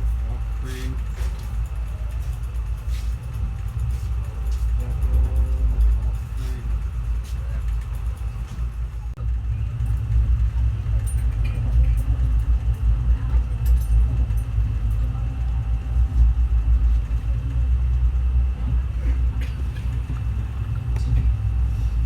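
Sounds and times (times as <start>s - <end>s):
passenger train rumbling: 0.0s - 22.0s.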